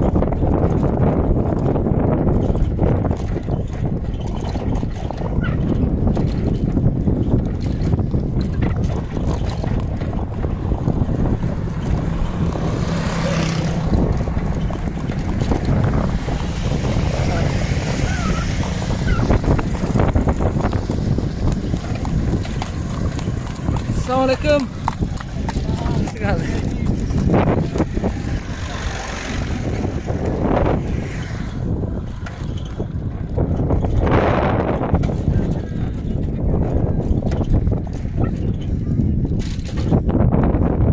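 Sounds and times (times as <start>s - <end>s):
wind buffeting microphone: 0.0s - 40.9s
small engine passing: 0.1s - 38.8s.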